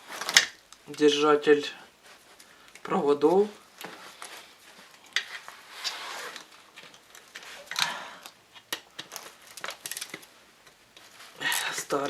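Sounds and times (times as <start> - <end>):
rustling of small parts: 0.0 - 1.2, 1.9 - 12.0.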